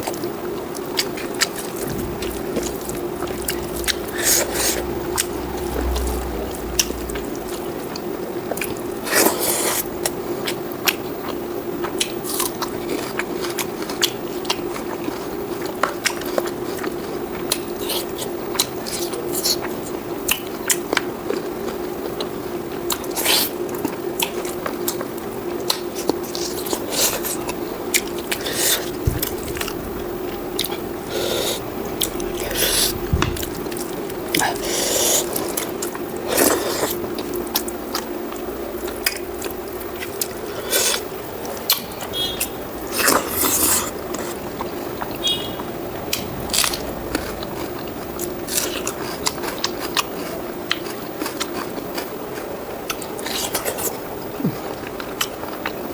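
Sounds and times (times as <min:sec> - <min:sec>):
faint steady hum: 0:00.0 - 0:55.9
food crunching: 0:00.0 - 0:55.9
wet chewing mouth sounds: 0:00.0 - 0:55.9.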